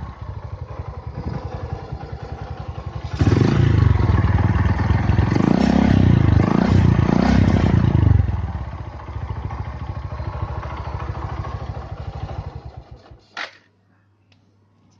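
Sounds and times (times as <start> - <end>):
motorcycle engine revving and idling: 0.0 - 13.2.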